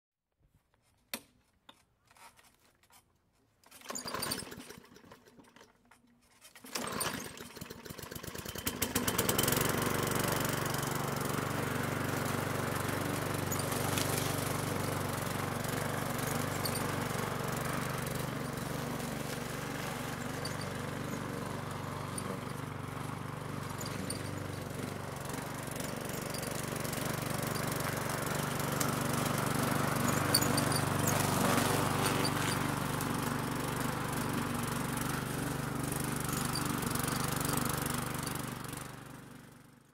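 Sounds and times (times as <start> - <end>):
lawn mower engine starting: 3.6 - 39.9.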